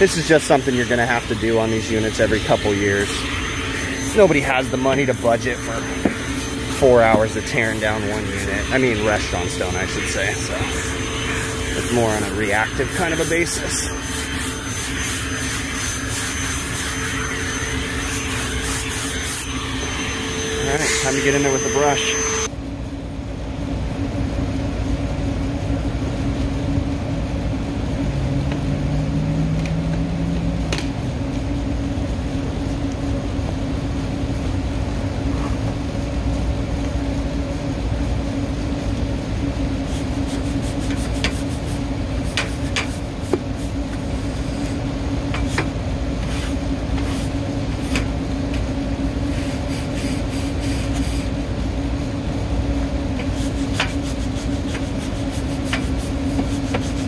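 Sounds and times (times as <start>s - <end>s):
rooftop machinery drone: 0.0s - 57.0s.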